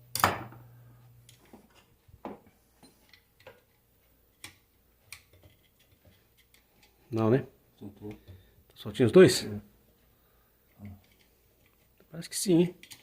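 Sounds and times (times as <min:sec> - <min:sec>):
low steady hum: 0:00.0 - 0:12.1.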